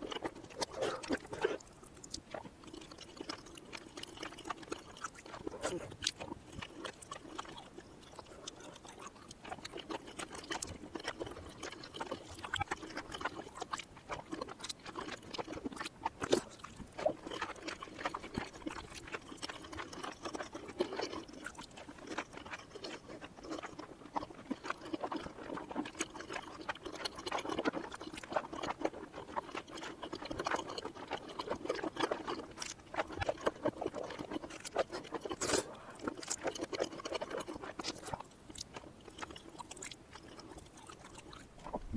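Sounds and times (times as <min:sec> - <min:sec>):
reversed chewing and mouth sounds: 0:00.0 - 0:41.9.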